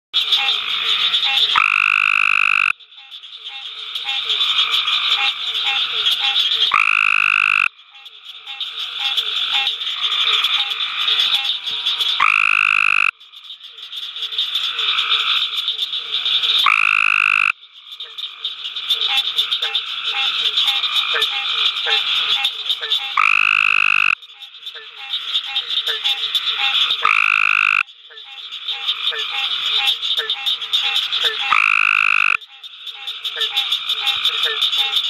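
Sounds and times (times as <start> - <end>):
frog buzzy trill: 0.3 - 7.8, 8.5 - 13.2, 16.6 - 18.2, 19.1 - 35.0
frog chorus with short notes: 0.3 - 11.6, 12.2 - 13.2, 16.6 - 18.2, 19.0 - 35.0.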